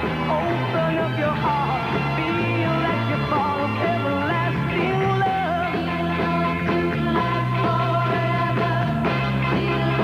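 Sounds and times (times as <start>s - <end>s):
pop rock song playing: 0.0s - 10.0s.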